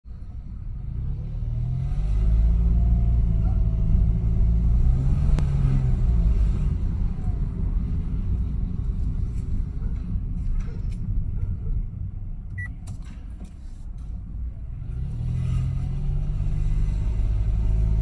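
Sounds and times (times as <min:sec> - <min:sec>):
car engine low rumble: 0:00.0 - 0:18.0.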